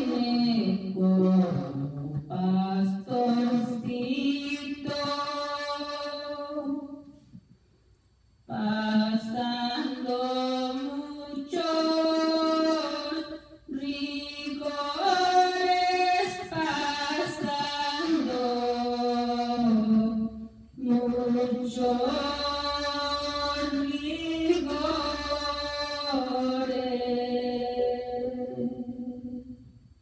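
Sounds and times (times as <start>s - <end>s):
woman singing unaccompanied: 0.0s - 7.1s, 8.5s - 29.6s.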